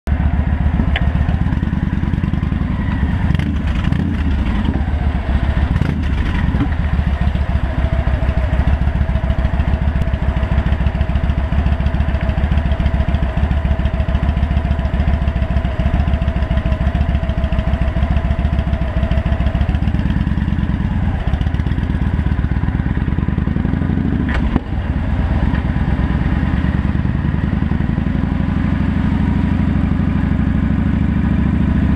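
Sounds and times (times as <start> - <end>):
motorcycle engine pulsing: 0.0 - 31.9.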